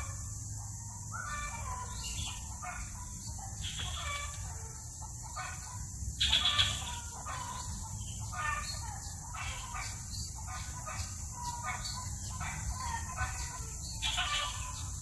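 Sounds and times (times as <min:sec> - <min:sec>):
chicks calling: 0:00.0 - 0:15.0.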